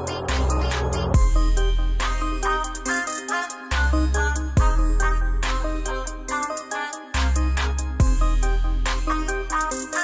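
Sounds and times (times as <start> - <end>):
music with heavy bass and beat: 0.0 - 10.0.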